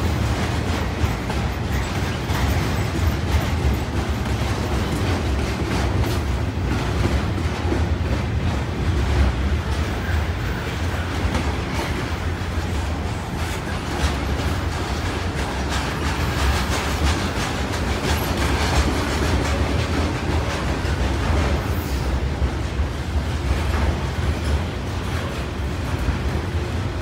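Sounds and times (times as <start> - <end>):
freight train wheels rumbling on rail: 0.0 - 27.0.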